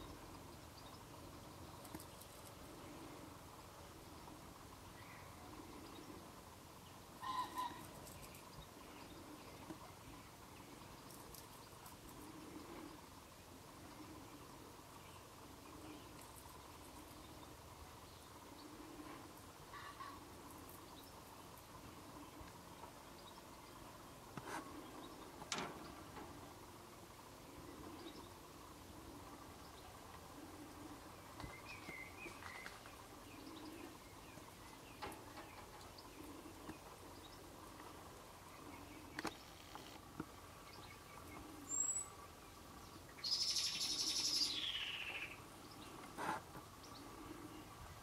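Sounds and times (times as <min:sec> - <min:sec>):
faint distant bird chirps: 0:00.0 - 0:48.0.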